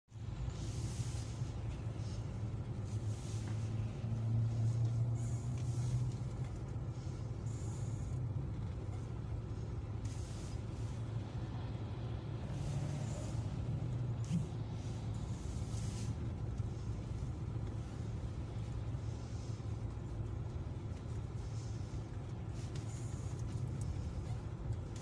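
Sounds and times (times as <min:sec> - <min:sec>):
car engine and road rumble: 0:00.1 - 0:25.0.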